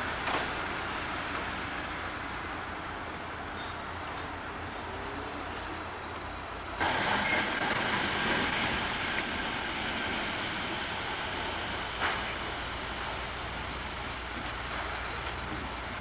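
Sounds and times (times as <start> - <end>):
electric trains: 0.0 - 16.0.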